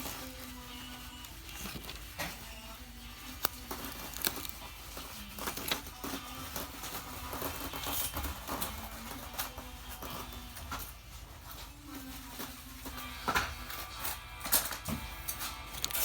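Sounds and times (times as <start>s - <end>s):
small objects clicking and rustling: 0.0s - 16.0s.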